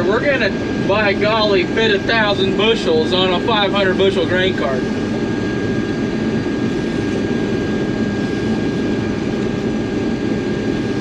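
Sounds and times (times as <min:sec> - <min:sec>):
combine harvester running: 0:00.0 - 0:11.0
faint high whine: 0:00.0 - 0:11.0.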